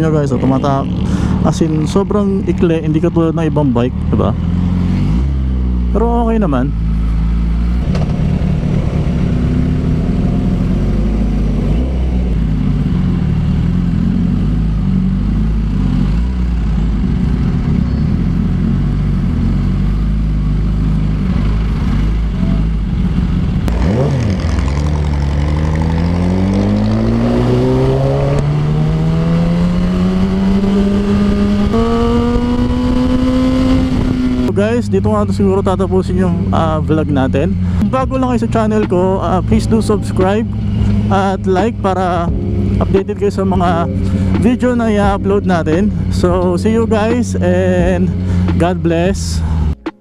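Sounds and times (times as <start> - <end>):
motorcycle engine: 0.0 - 50.0.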